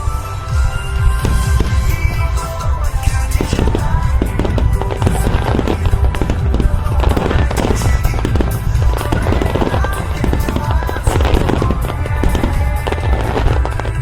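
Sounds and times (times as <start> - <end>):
fireworks bursting with booms: 0.0 - 14.0
music: 0.0 - 14.0.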